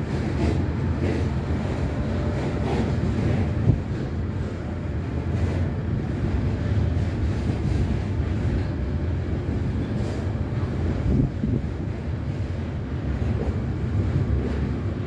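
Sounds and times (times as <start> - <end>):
diesel locomotive rumble: 0.0 - 15.0
wind on microphone: 0.0 - 15.0.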